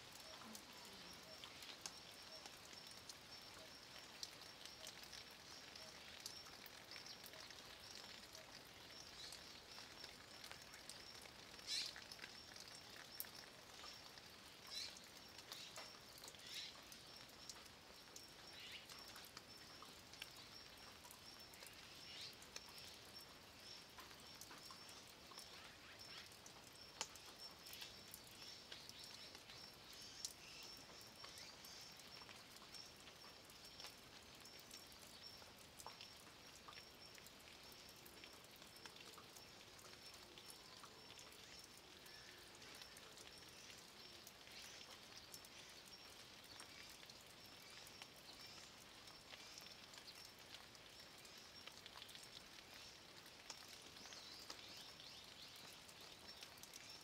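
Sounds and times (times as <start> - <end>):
light rain pattering on stone: 0.0 - 57.0.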